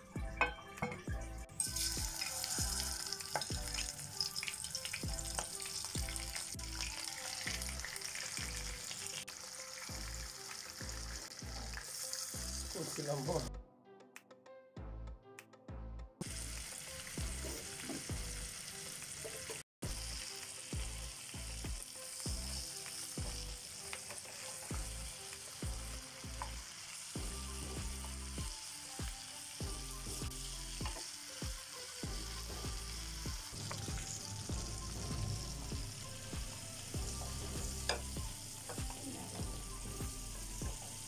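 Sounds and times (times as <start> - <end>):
prawns sizzling in hot oil: 0.0 - 13.5, 16.2 - 41.0.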